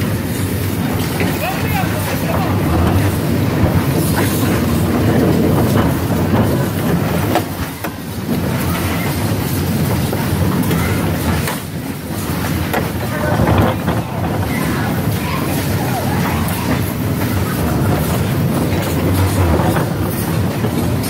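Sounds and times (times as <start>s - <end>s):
bumper cars knocking: 0.0s - 21.0s
bumper cars rumbling rattle: 0.0s - 21.0s.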